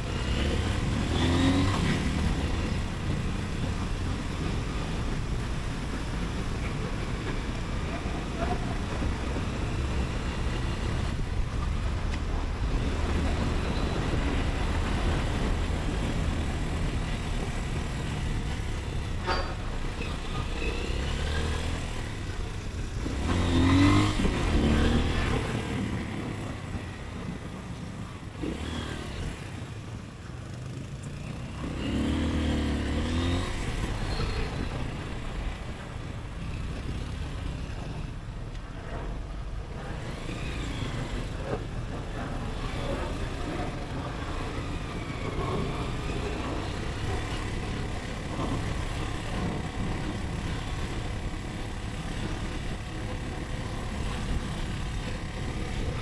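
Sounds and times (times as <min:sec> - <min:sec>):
motorcycle engine: 0:00.0 - 0:56.0
road noise: 0:00.0 - 0:56.0.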